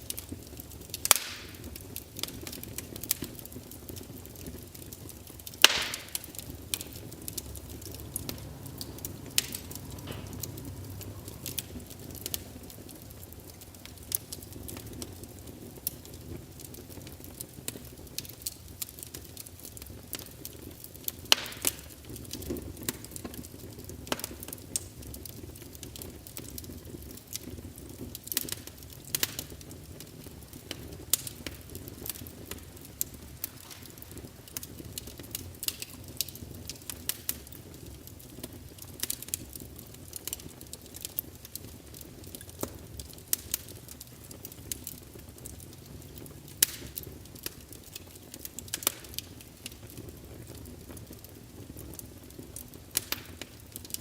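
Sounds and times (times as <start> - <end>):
log fire crackling and popping: 0.0 - 54.0
low rush of flames: 0.0 - 54.0.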